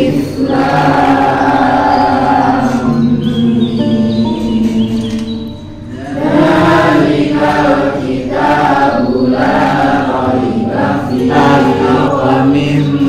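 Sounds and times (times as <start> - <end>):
chorus of chanting voices: 0.0 - 13.0.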